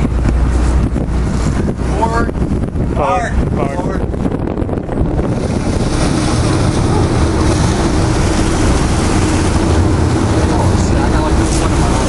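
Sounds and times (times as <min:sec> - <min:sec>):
boat engine rumble: 0:00.0 - 0:12.0
water churning: 0:00.0 - 0:12.0
wind buffeting the microphone: 0:00.0 - 0:12.0.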